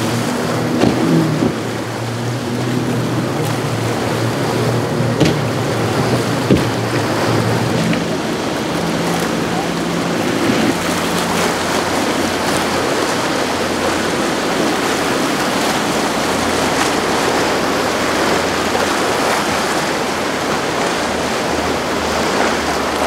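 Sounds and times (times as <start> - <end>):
boat engines droning: 0.0 - 23.0
waves and churning water: 0.0 - 23.0.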